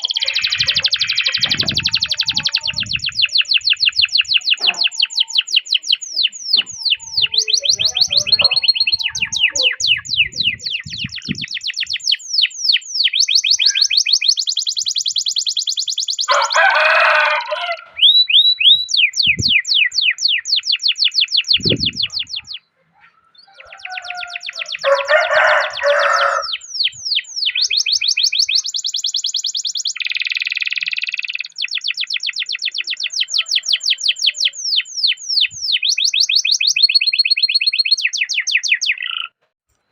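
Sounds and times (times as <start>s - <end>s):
canary singing trills: 0.0s - 39.4s.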